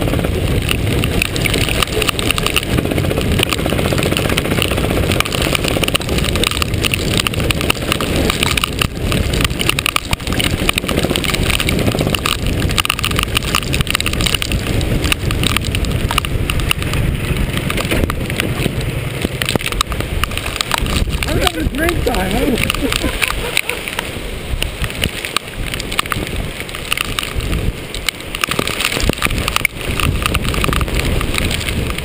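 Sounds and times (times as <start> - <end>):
go-kart engine running: 0.0 - 32.0
water noise: 0.0 - 32.0
wind noise: 0.0 - 32.0.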